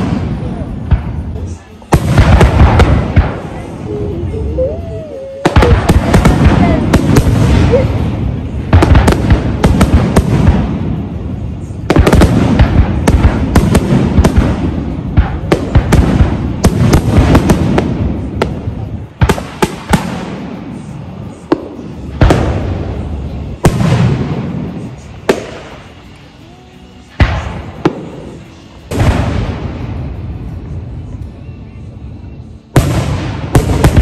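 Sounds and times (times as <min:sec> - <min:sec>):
big fireworks booms: 0:00.0 - 0:04.7, 0:05.4 - 0:26.1, 0:27.1 - 0:31.1, 0:32.7 - 0:34.0
fireworks bangs and crackling: 0:00.0 - 0:31.4, 0:32.4 - 0:34.0.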